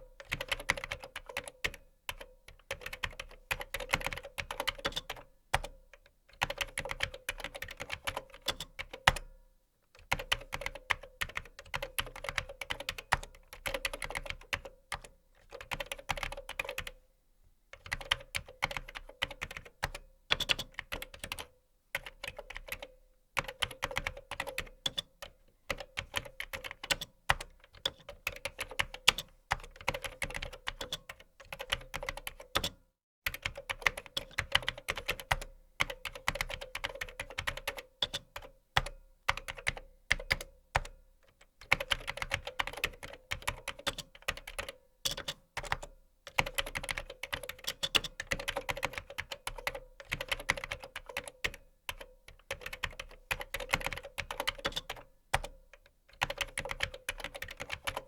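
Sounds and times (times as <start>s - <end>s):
fast keyboard typing: 0.2s - 5.8s, 6.4s - 9.2s, 10.0s - 17.0s, 17.8s - 40.9s, 41.6s - 58.0s.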